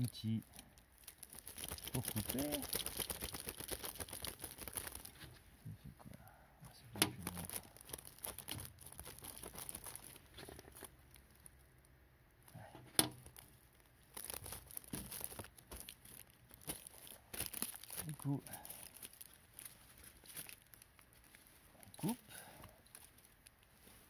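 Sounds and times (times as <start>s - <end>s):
plastic wrapping crinkling: 0.0s - 5.4s, 7.0s - 24.0s.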